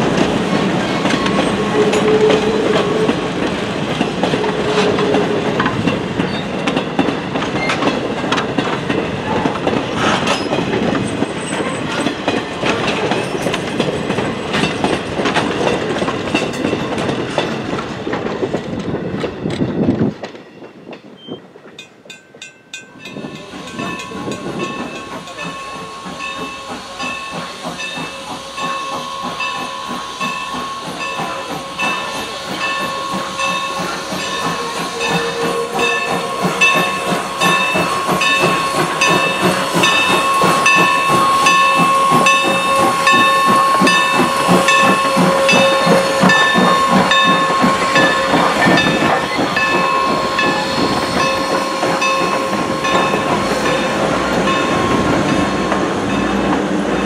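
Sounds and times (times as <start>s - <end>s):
steam locomotive hissing: 0.0s - 22.2s, 22.8s - 57.0s
train wheels clicking over rail joints: 0.0s - 57.0s.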